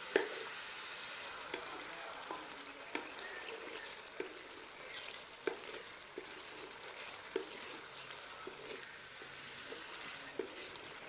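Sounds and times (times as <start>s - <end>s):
food sizzling in oil: 0.0s - 11.0s
spoon stirring and knocking pot: 1.5s - 11.0s.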